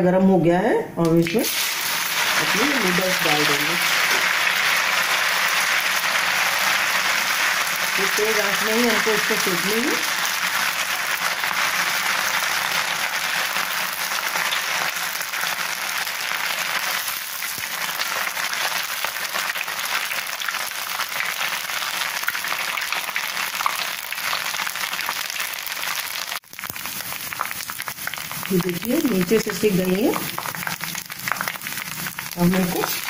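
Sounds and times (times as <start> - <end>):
noodles deep-frying in oil: 1.2 - 33.0.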